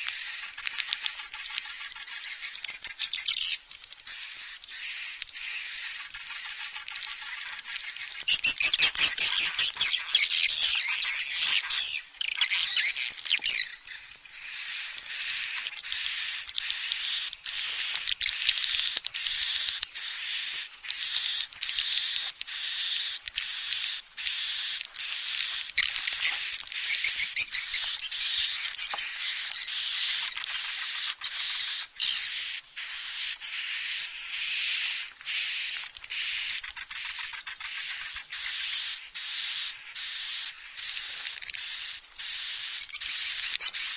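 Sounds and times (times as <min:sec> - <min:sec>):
bird chattering trills: 0:00.0 - 0:43.9
swiftlet calls twittering: 0:00.0 - 0:43.9.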